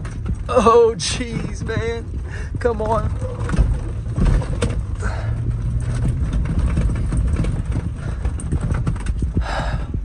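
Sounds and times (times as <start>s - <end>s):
truck body knocking and rattling: 0.0s - 10.0s
truck engine under load: 0.0s - 10.0s.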